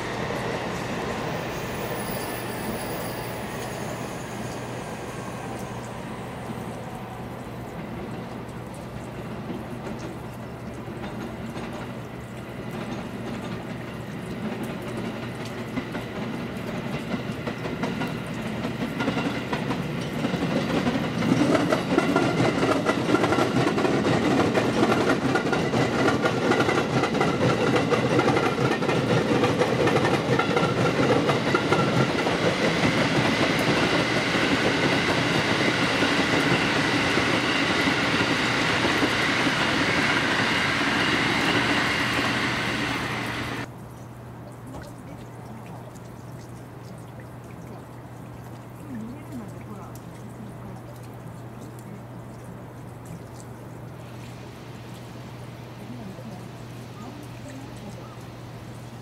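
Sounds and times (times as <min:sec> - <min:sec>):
electric train rumbling past: 0:00.0 - 0:43.7, 0:53.8 - 0:59.0.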